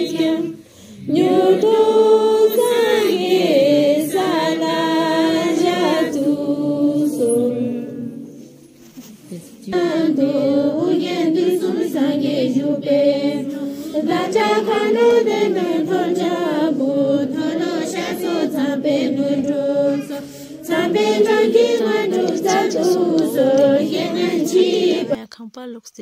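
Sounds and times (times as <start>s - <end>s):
voices chanting prayer: 0.0s - 8.7s, 9.3s - 25.2s.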